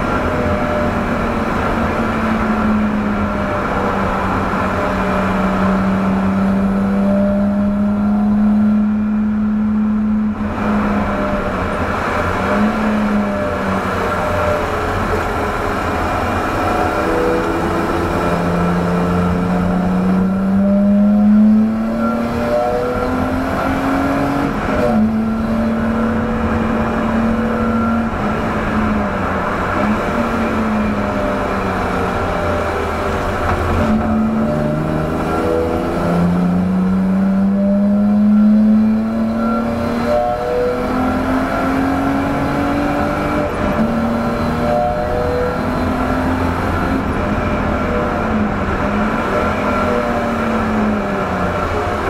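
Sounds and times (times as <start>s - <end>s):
car engine revving: 0.0s - 52.0s
road and wind noise: 0.0s - 52.0s.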